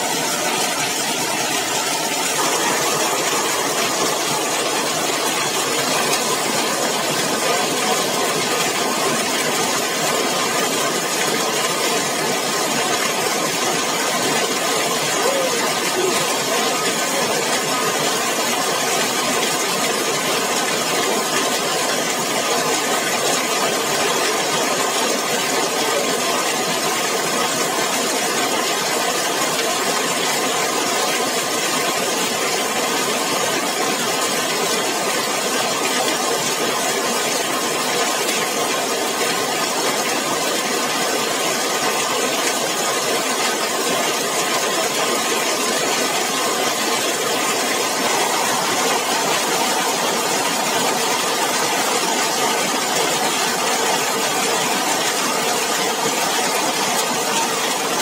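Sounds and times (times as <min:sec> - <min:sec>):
heavy rain on metal roof: 0:00.0 - 0:58.0.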